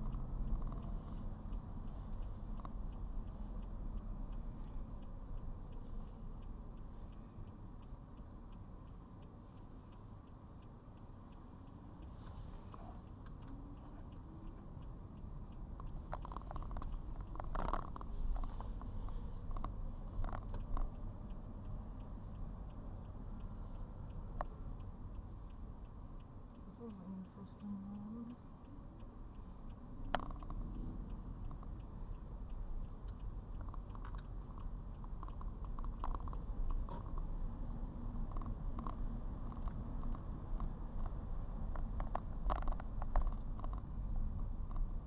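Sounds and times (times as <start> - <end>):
faint regular ticking: 0.0 - 45.0
road and engine rumble: 0.0 - 45.0.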